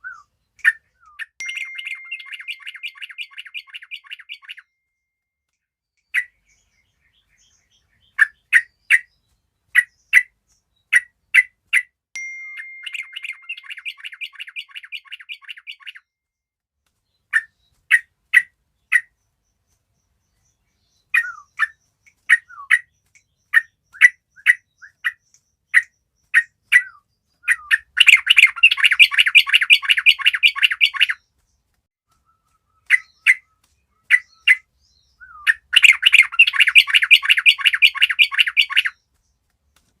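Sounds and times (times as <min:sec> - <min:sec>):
birds chirping and chattering: 0:00.0 - 0:04.6, 0:06.1 - 0:11.8, 0:12.6 - 0:16.0, 0:17.0 - 0:40.0.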